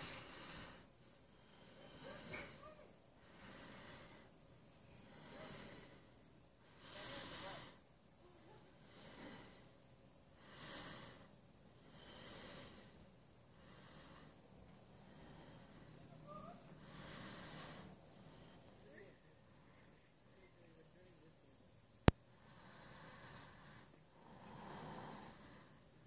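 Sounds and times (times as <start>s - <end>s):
slow breathing: 0.0s - 20.6s, 22.1s - 26.0s.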